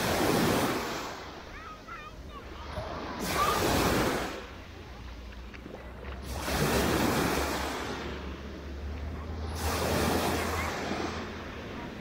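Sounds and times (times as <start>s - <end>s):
small waves breaking on sand: 0.0s - 12.0s.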